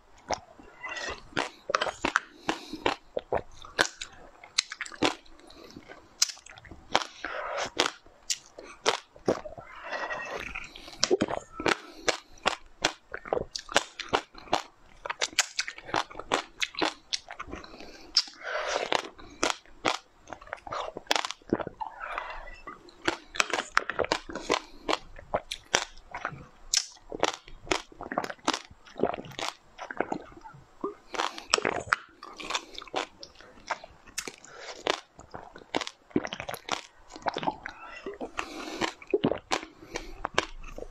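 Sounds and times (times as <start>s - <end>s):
sucking and slurping: 0.0s - 40.9s
wet mouth clicks and smacks: 1.1s - 9.5s, 10.4s - 21.8s, 22.6s - 40.9s.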